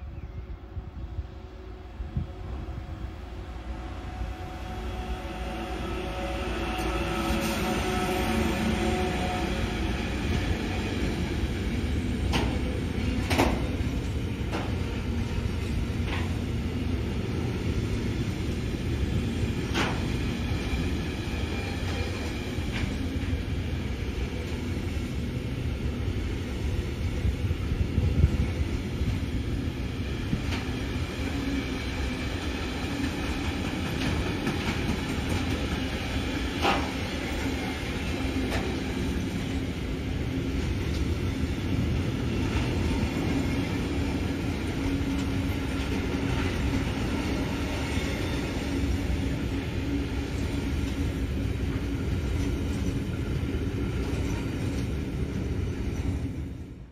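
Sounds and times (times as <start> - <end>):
train wheels rumbling on track: 0.0 - 56.9.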